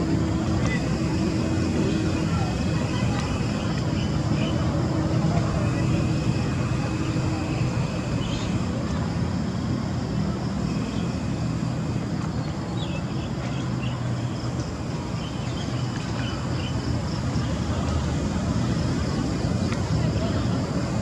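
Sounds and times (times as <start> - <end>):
distant road traffic rumble: 0.0 - 21.0.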